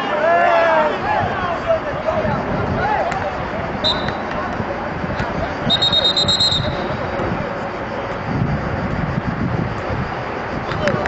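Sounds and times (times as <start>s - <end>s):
wind buffeting microphone: 0.8s - 11.0s.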